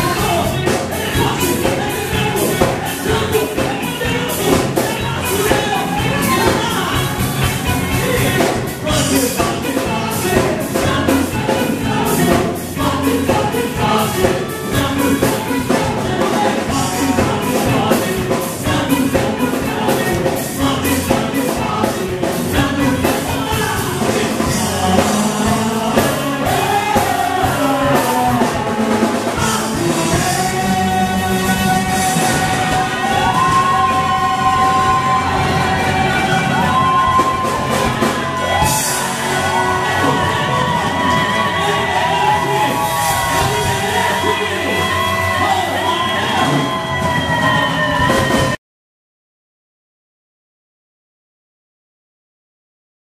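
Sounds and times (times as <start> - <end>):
drum kit beat: 0.0 - 48.6
electric guitars: 0.0 - 48.6
singers in unison: 0.0 - 48.6.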